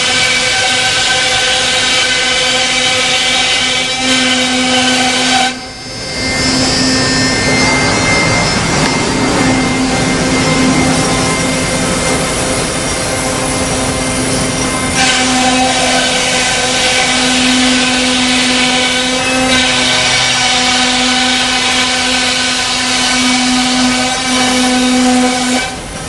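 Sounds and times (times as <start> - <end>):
saw-like cutting noise: 0.0 - 25.9
router spindle whine: 0.0 - 26.0.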